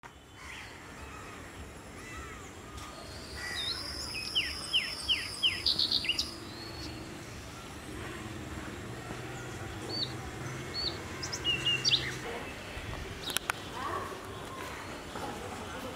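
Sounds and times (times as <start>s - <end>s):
wild birds chirping: 0.2s - 15.7s.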